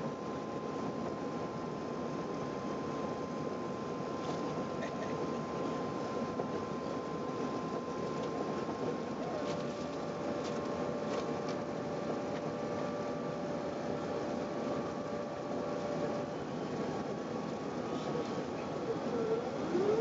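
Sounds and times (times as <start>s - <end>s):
high steady whines: 0.0s - 20.0s.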